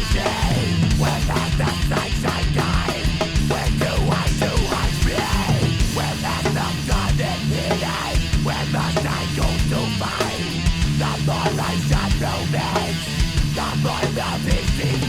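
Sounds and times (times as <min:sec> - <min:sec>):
distorted electric guitars: 0:00.0 - 0:15.0.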